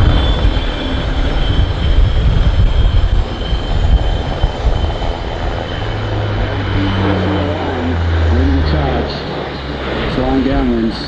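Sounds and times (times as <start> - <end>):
military aircraft engine rumble: 0.0 - 11.0.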